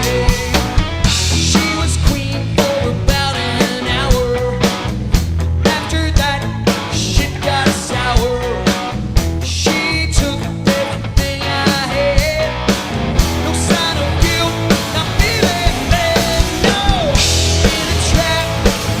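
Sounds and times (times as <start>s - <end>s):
bass guitar: 0.0s - 19.0s
drum kit steady beat: 0.0s - 19.0s
electric guitar: 0.0s - 19.0s.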